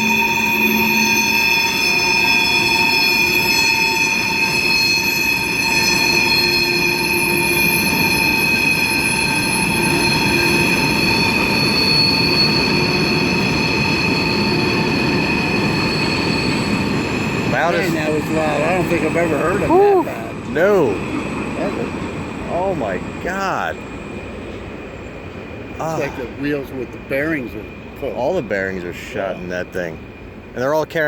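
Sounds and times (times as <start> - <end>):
train wheels squealing: 0.0 - 30.8
rumble of rolling train cars: 0.0 - 31.0.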